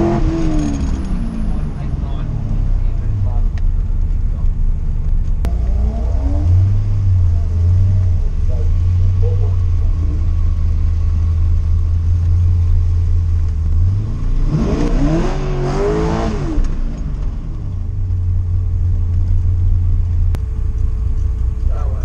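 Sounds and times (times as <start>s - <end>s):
car engine idling: 0.0s - 14.5s, 16.6s - 22.0s
car engine revving: 0.0s - 22.0s.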